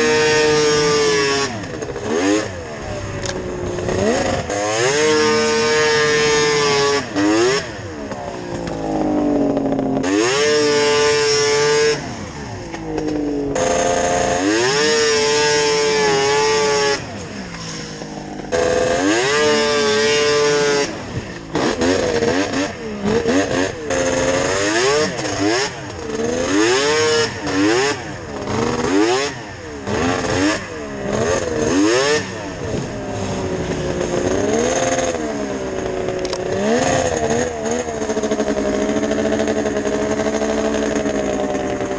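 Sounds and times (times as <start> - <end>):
snowmobile engine revving hard: 0.0 - 41.9.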